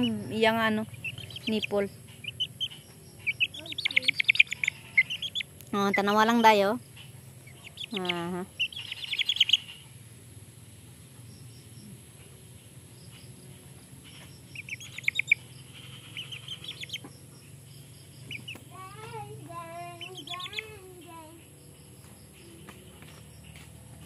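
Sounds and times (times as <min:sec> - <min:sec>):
chick peeping: 0:00.0 - 0:10.1, 0:11.9 - 0:23.2.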